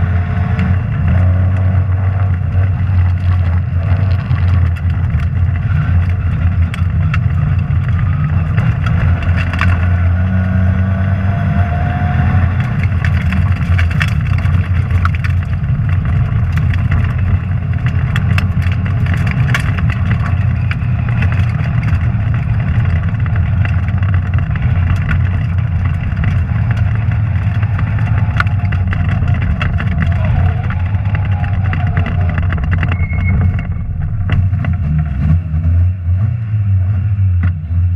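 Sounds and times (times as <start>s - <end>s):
rally car engine running hard: 0.0s - 37.9s
sharp clicks and knocks: 0.6s - 10.0s, 12.5s - 35.4s.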